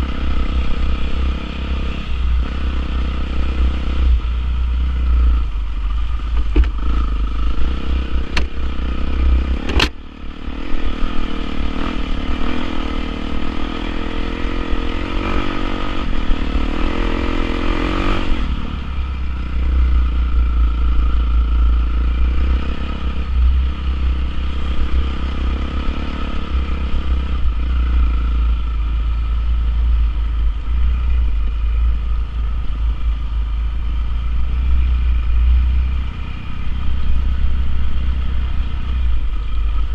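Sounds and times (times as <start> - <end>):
heavy low rumble: 0.0 - 12.8, 18.0 - 25.3, 26.1 - 39.9
dirt bike engine running: 0.0 - 39.9.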